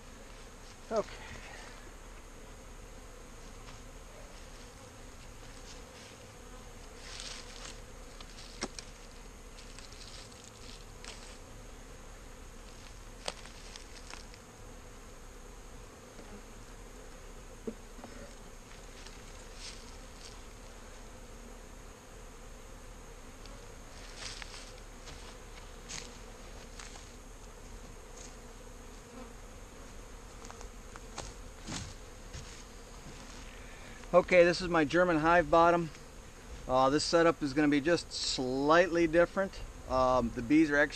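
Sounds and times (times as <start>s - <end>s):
honey bees buzzing: 0.0s - 40.9s.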